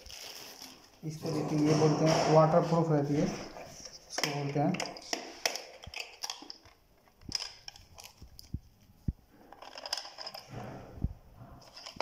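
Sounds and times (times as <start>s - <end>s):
plastic parts clicking and knocking: 1.2s - 12.0s.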